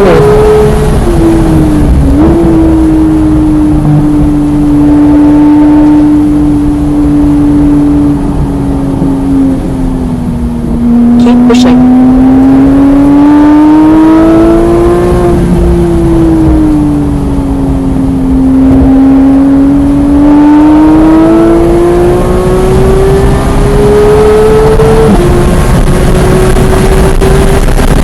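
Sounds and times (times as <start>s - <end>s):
car engine revving high: 0.0s - 28.0s.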